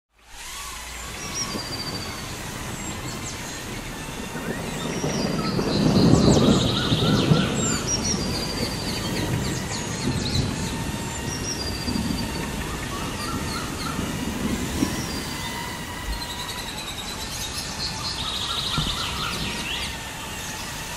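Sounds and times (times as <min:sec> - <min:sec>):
loud rushing noise: 0:00.2 - 0:20.9
birds chirping and trilling: 0:00.4 - 0:20.9.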